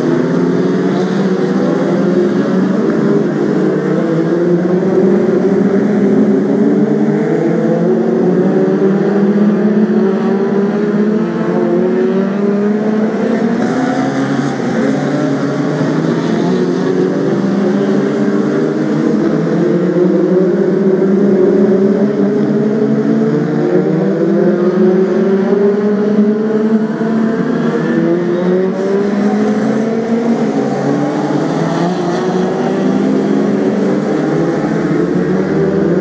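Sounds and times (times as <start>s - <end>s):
racing car engines: 0.0s - 36.0s.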